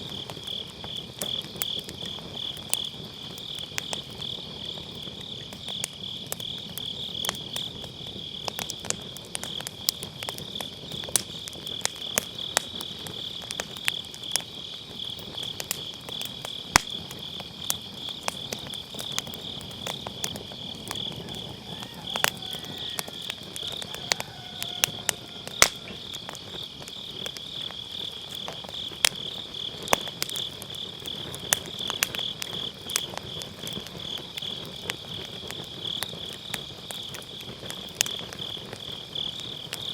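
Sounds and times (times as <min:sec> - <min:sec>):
fire crackling and popping: 0:00.0 - 0:39.9
insects trilling: 0:00.0 - 0:39.9.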